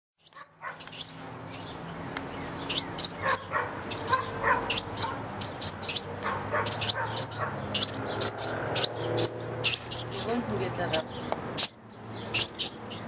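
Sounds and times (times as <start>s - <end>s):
flock of small birds chirping: 0.2s - 13.0s.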